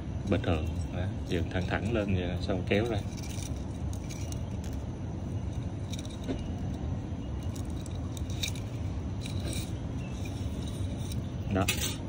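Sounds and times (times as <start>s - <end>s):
steady low rumble: 0.0s - 12.0s
metallic wire clicks and scrapes: 0.2s - 6.8s, 7.4s - 12.0s.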